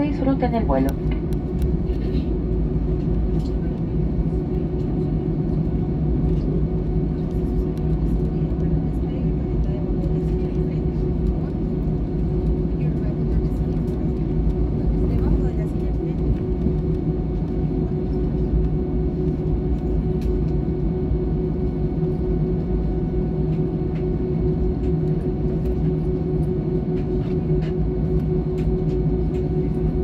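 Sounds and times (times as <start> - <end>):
jet engines low rumble and hum: 0.0 - 30.0.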